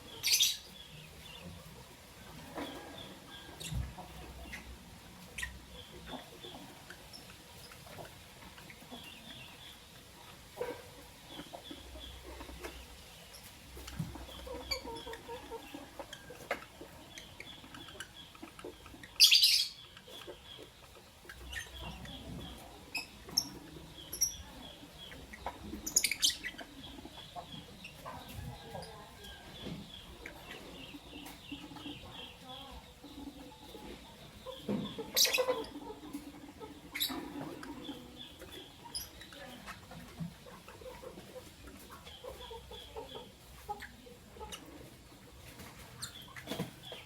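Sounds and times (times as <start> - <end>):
lovebirds chirping: 0.0 - 47.0.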